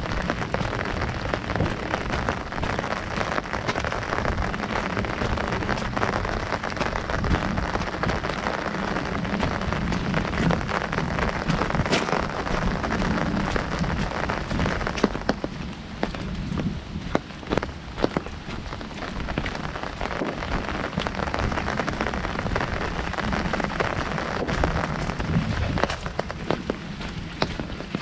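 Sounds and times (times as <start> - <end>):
heavy rain on an umbrella: 0.0 - 28.0.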